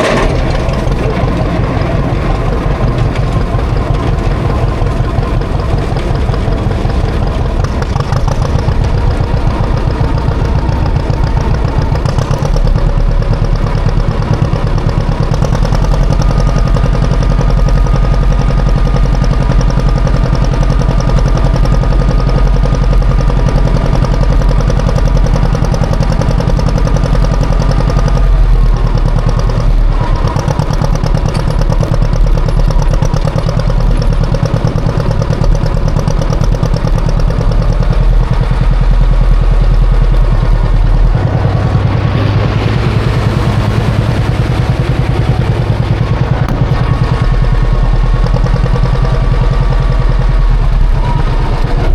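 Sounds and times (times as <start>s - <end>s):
tractor engine running under load: 0.0s - 51.9s.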